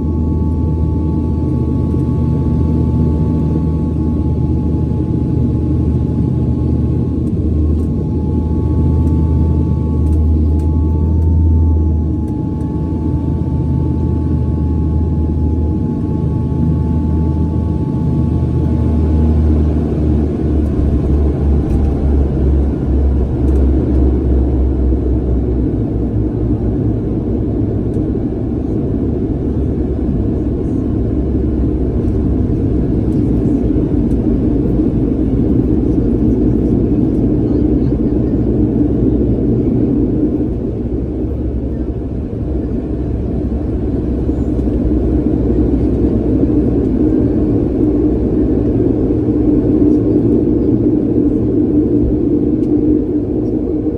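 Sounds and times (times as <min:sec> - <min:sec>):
airliner engines and tyres rumbling: 0:00.0 - 0:53.9
low hum: 0:00.0 - 0:53.9.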